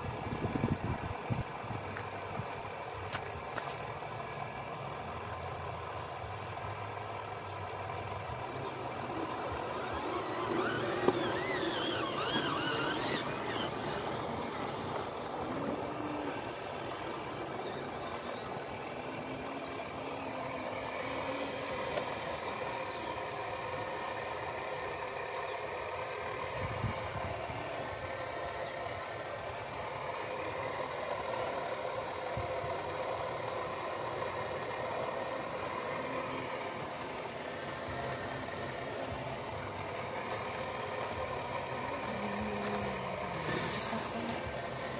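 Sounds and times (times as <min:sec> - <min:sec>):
model excavator motor whine: 0:00.0 - 0:44.9.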